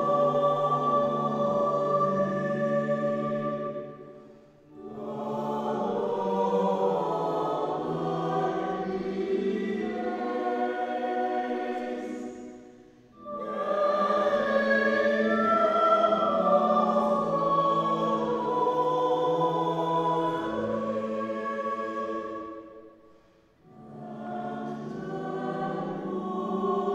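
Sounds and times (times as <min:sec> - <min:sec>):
choir singing a hymn: 0:00.0 - 0:26.9.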